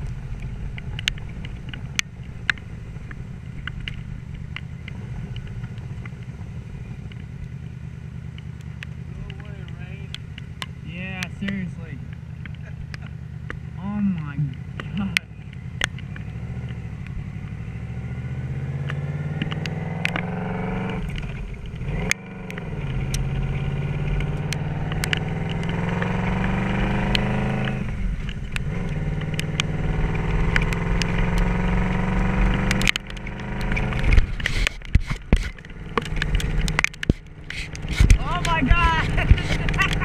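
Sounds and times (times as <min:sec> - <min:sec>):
sharp knocks and crackles: 0:00.0 - 0:07.6, 0:08.2 - 0:13.8, 0:18.8 - 0:40.0
motorcycle engine pulling through gears: 0:00.0 - 0:40.0.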